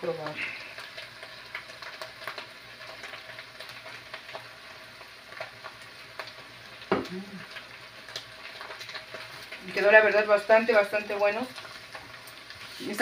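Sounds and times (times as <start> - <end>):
pork and onion sizzling in a pan: 0.0 - 13.0.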